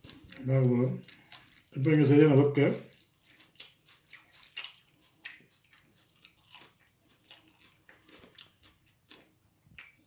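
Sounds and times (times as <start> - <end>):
wet clicks and squishes of eating: 0.0 - 10.0.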